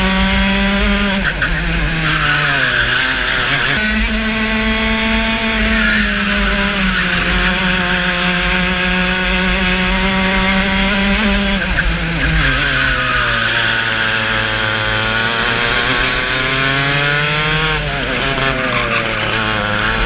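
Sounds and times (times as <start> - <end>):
racing kart engine: 0.0 - 20.0.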